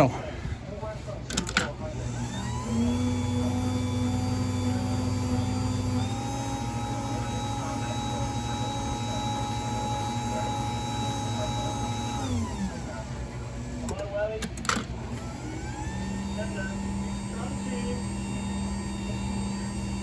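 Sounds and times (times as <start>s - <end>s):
garage door opener motor humming: 1.4s - 20.0s.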